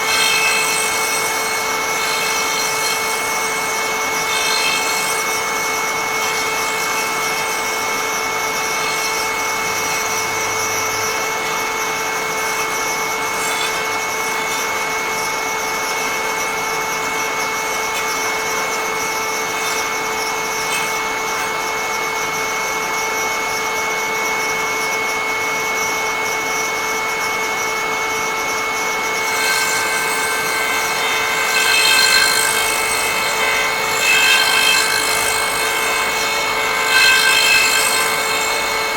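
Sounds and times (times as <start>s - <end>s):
rasping wood cutting: 0.0s - 23.2s, 28.9s - 38.9s
lathe cutter high whine: 0.0s - 38.9s.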